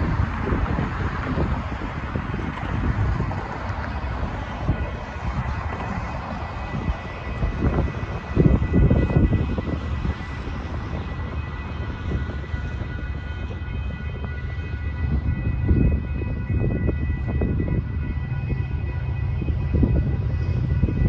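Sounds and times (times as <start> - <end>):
railroad crossing bells ringing: 3.3 - 21.0.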